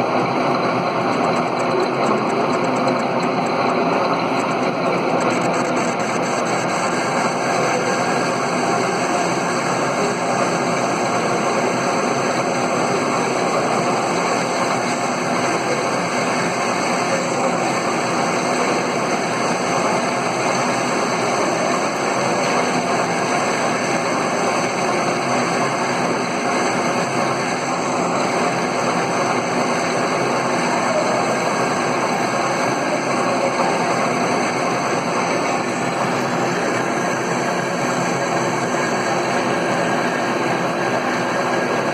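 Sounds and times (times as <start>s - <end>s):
metal lathe running: 0.0s - 41.9s.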